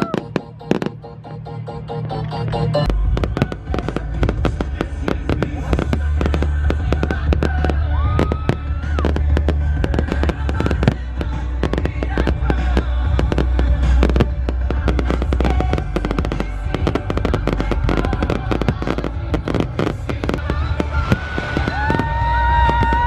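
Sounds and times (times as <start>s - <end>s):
fireworks crackling and banging: 0.0s - 23.0s
music playing: 0.0s - 23.0s.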